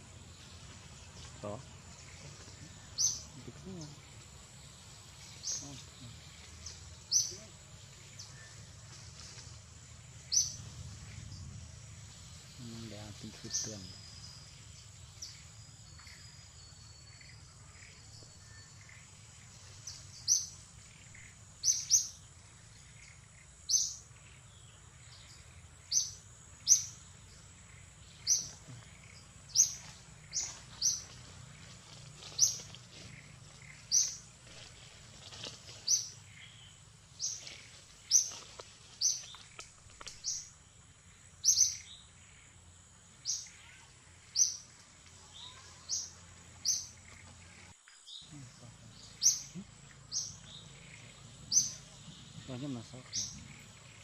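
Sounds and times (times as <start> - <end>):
bird chirping: 0.0 - 34.4, 35.4 - 38.4, 39.0 - 54.0.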